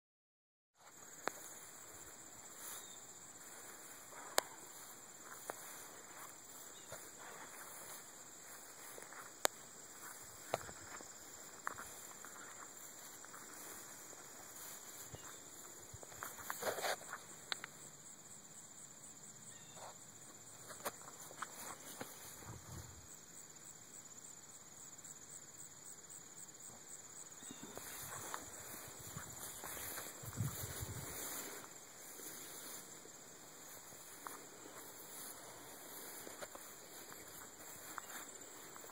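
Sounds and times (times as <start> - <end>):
footsteps in grass: 0.8 - 17.8, 19.7 - 23.0, 27.4 - 38.9
insects chirring: 0.8 - 38.9.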